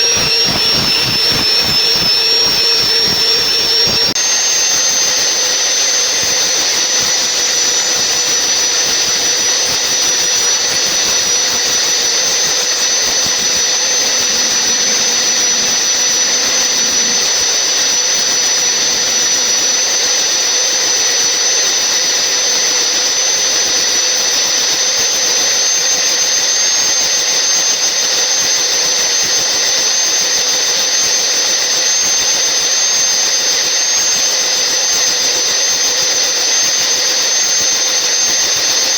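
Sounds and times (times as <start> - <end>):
log saw whining: 0.0 - 38.9.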